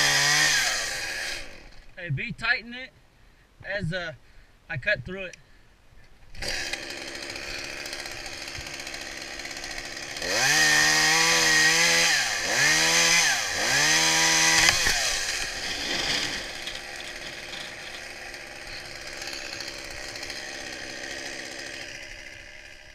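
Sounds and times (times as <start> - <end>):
chainsaw idling and revving: 0.0 - 2.0, 6.3 - 22.9.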